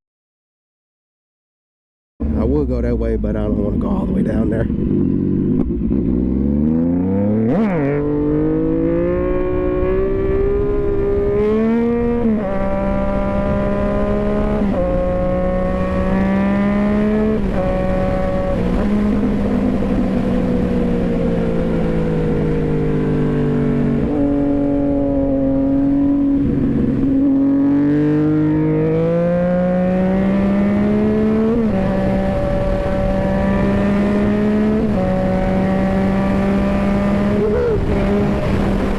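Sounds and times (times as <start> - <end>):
wind noise on microphone: 4.0 - 38.9
motorcycle engine shifting gears: 4.4 - 38.9.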